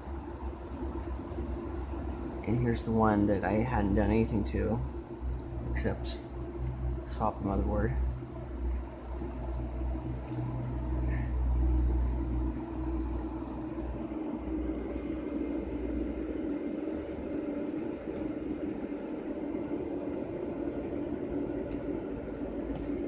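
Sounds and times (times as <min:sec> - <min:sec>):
cooling fans whirring: 0:00.0 - 0:23.0.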